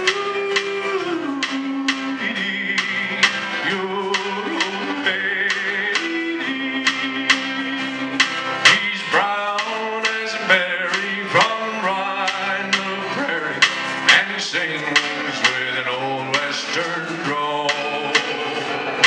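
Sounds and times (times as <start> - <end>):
man singing: 0.0 - 19.0
steady drum beat: 0.0 - 19.0
strummed acoustic guitars: 0.0 - 19.0
upright bass: 0.0 - 19.0.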